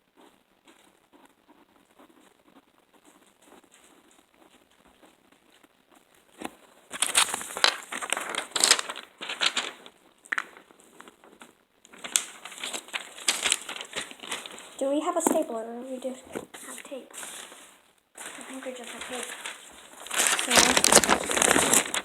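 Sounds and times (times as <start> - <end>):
crinkling rustling handling noise: 3.0 - 22.0.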